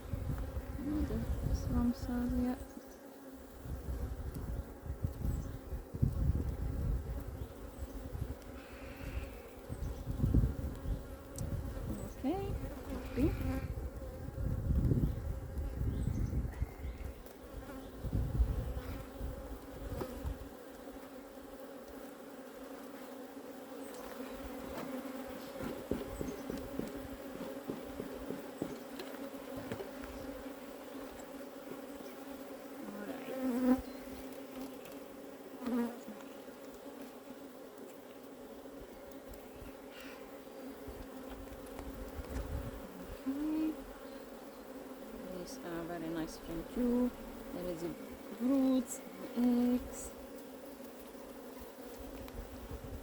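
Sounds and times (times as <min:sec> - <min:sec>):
bees buzzing: 0:00.0 - 0:53.0.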